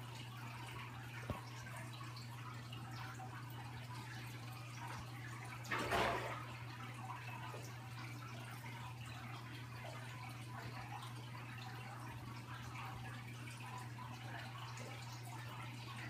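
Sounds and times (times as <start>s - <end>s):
low pump hum: 0.0s - 16.0s
water trickling and bubbling: 0.0s - 16.0s.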